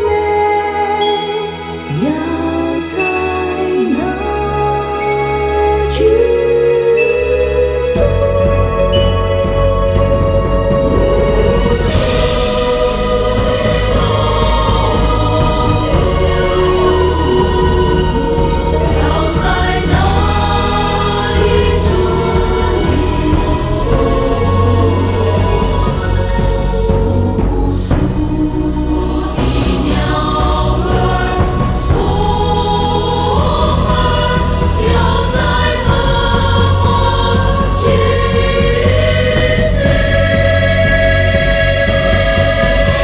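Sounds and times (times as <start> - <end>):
choir singing long notes: 0.0 - 43.0
low accompaniment: 0.0 - 43.0
steady low bass: 3.4 - 43.0.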